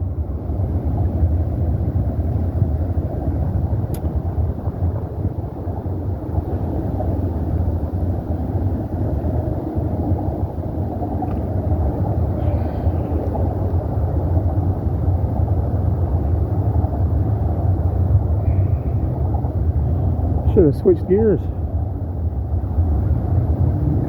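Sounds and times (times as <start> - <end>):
freeway traffic rumble: 0.0 - 24.0.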